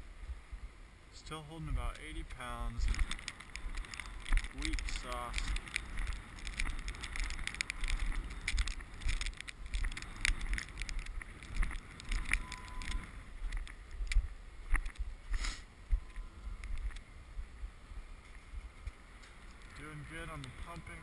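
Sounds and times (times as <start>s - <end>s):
wind buffeting microphone: 1.6s - 21.0s
sharp clicks and crackles: 1.9s - 17.1s, 18.2s - 21.0s.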